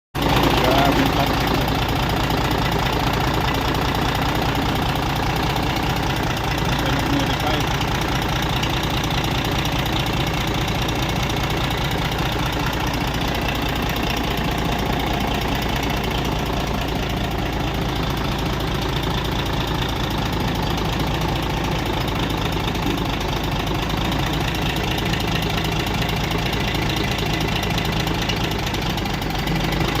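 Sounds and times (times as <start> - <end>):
diesel truck engine idling: 0.2 - 30.0.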